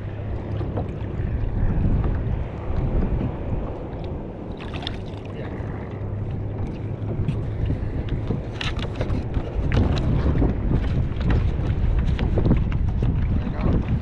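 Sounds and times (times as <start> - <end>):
water splashing: 0.0 - 14.0
wind buffeting microphone: 0.0 - 14.0.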